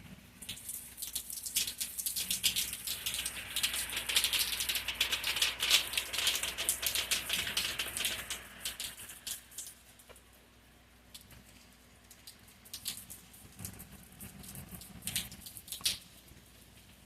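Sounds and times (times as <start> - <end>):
heavy rain pattering: 0.0 - 10.4, 11.0 - 17.0.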